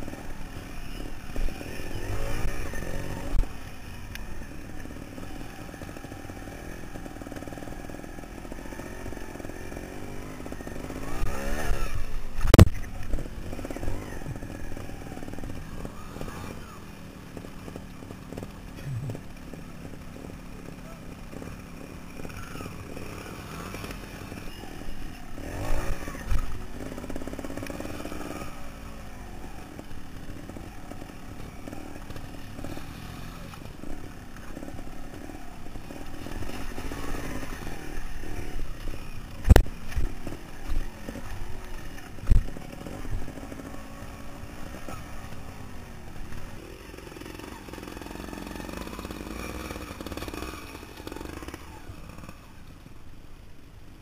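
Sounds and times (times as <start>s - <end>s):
motorcycle engine revving: 0.0s - 52.7s.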